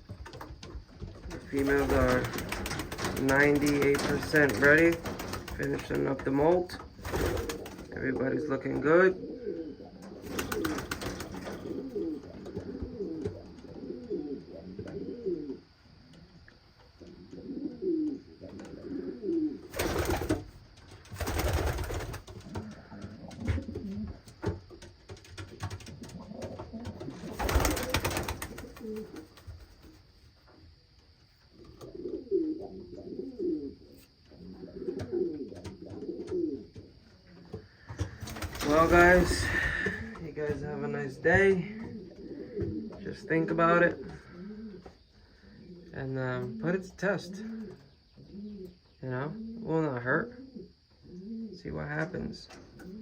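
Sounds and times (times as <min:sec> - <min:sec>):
pigeons cooing: 0:00.0 - 0:29.9, 0:31.5 - 0:51.7, 0:52.6 - 0:53.0.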